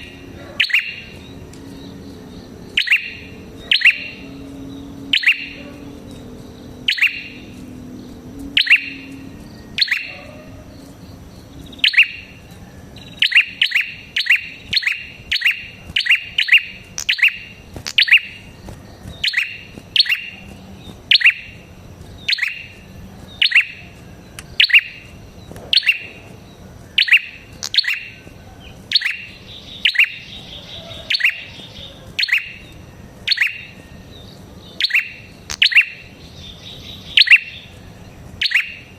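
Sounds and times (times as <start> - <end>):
songbird sharp chirps: 0.0 - 38.9.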